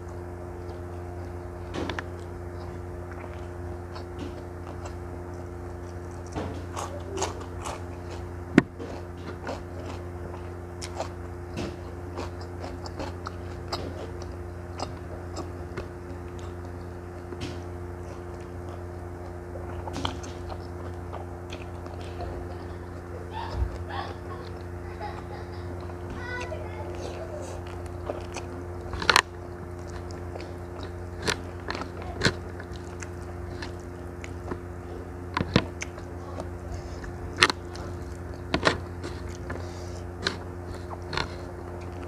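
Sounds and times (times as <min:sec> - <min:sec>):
crunching cucumber bites: 0:00.0 - 0:42.0
low electrical hum: 0:00.0 - 0:42.0
wet chewing: 0:00.0 - 0:42.0.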